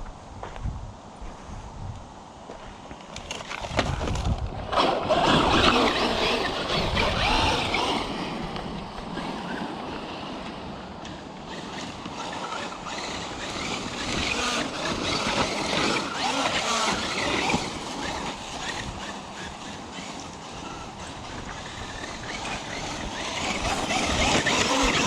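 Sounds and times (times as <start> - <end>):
rc truck motor whine: 3.1 - 25.0.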